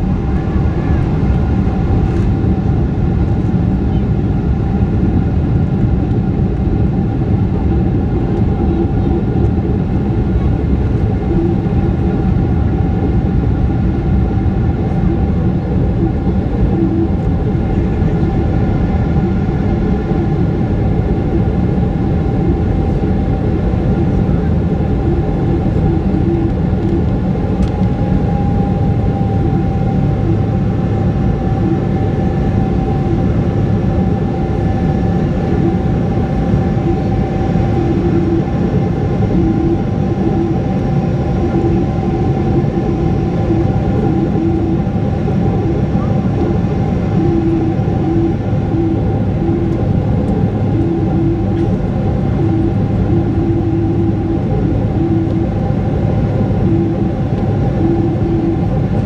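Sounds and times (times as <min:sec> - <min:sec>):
jet engines loud rumble: 0:00.0 - 0:59.0
steady hums: 0:00.0 - 0:59.0.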